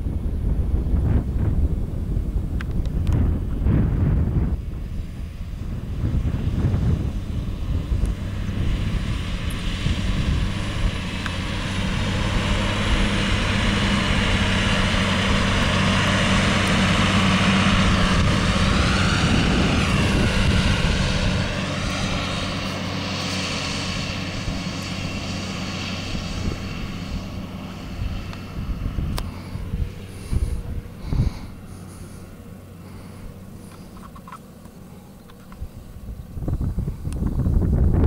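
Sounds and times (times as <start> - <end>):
high whine wavering in pitch: 0.0 - 38.0
tractor diesel engine under load: 0.0 - 38.0.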